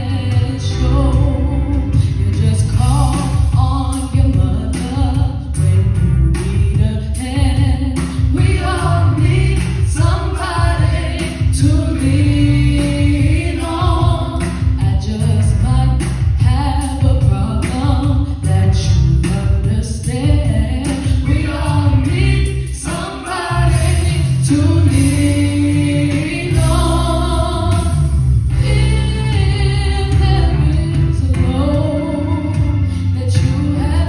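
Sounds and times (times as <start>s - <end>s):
woman singing into a microphone: 0.0s - 27.9s, 28.6s - 34.0s
amplified music with heavy bass: 0.0s - 34.0s.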